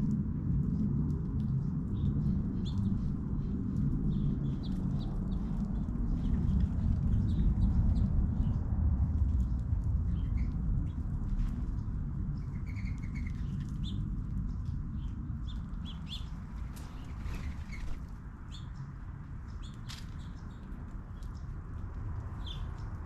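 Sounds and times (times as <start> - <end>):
steady low rumble: 0.0 - 23.0
small birds chirping: 1.9 - 8.6, 9.4 - 23.0.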